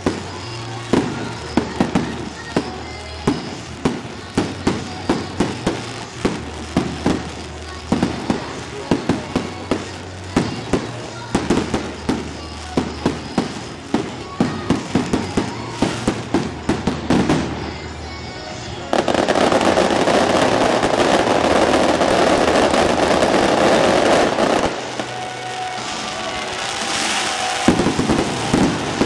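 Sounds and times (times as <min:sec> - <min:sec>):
fireworks bangs: 0:00.0 - 0:29.0
fireworks crackling: 0:00.0 - 0:29.0.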